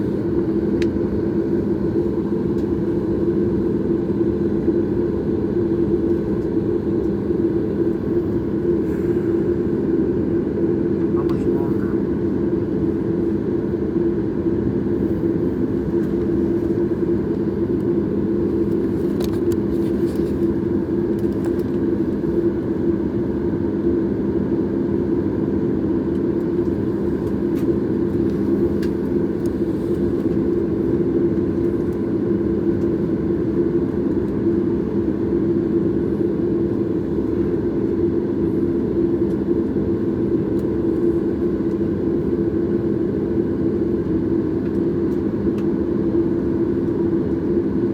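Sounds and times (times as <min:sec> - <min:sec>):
airplane cabin engine drone: 0:00.0 - 0:47.9.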